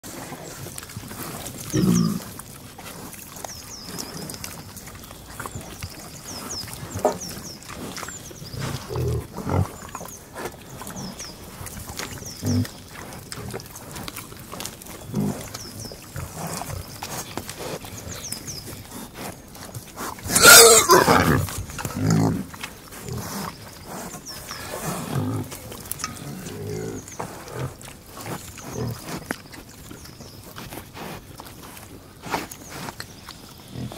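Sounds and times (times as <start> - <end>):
pigs grunting: 0.1 - 29.9, 30.5 - 33.9.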